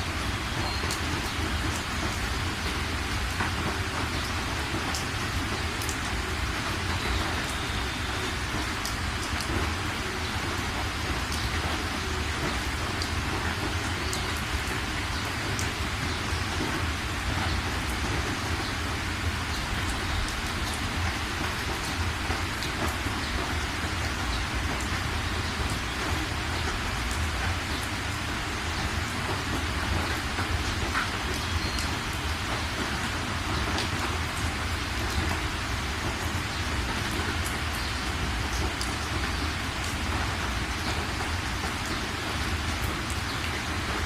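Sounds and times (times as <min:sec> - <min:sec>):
steady rain hiss: 0:00.0 - 0:44.0
raindrop ticks: 0:00.1 - 0:44.0.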